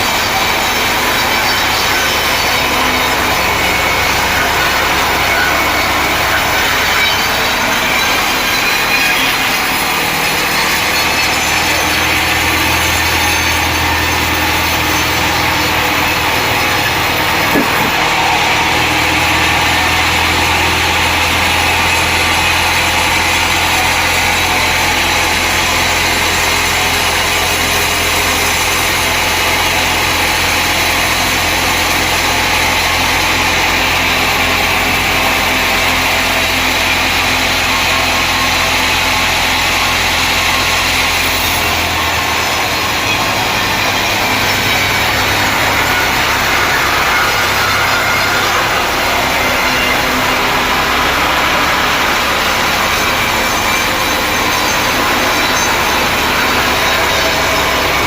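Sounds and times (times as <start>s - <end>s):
loud engine hum: 0.0s - 58.0s
sawing noise: 0.0s - 58.0s.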